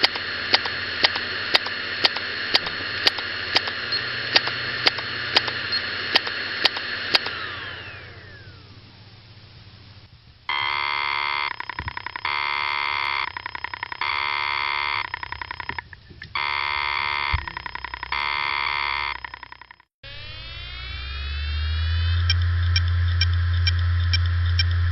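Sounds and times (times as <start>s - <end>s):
hard disk drive buzzing: 0.0s - 24.9s.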